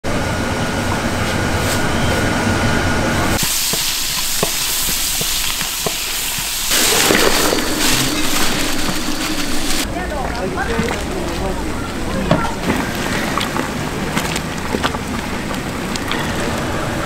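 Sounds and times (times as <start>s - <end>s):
pots of soup boiling hard: 3.3s - 17.0s.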